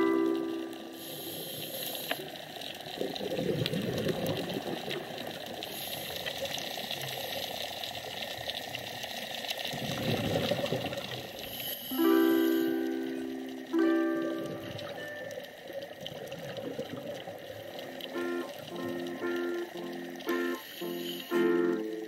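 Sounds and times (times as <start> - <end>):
crackling clicks: 0.0 - 22.0
muffled underwater noise: 0.0 - 22.0
water bubbling: 0.0 - 22.0.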